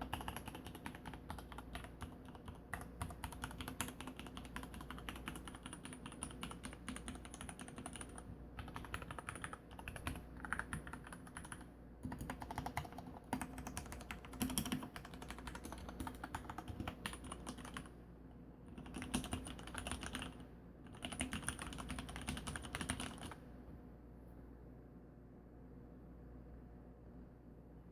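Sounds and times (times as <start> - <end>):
mechanical keyboard typing: 0.0 - 17.9, 18.7 - 23.4.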